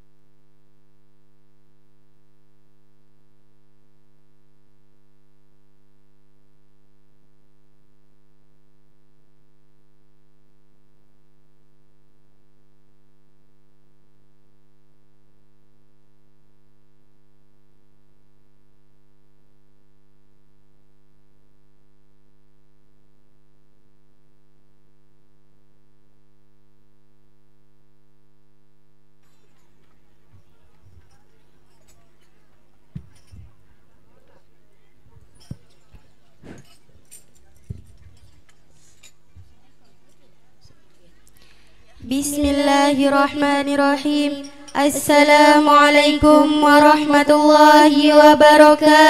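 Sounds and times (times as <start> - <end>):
electrical hum from sound system: 0.0 - 36.8, 39.2 - 49.0.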